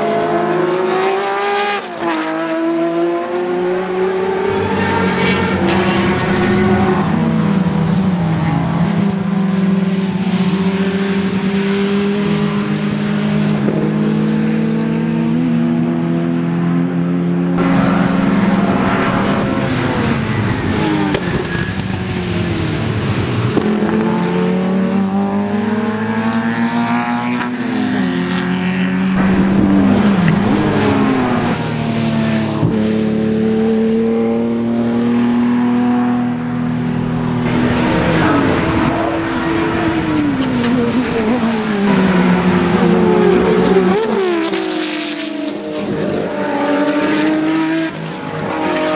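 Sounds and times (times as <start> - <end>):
racing car engines revving: 0.0 - 48.9.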